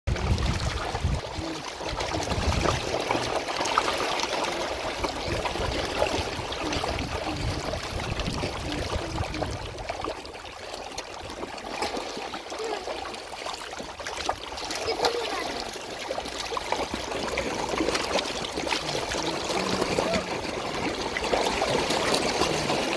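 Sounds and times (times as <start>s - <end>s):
water trickling: 0.1s - 22.9s.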